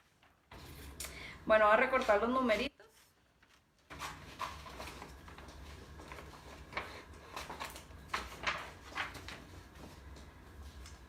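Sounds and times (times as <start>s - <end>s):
paper rustling: 1.9s - 11.0s.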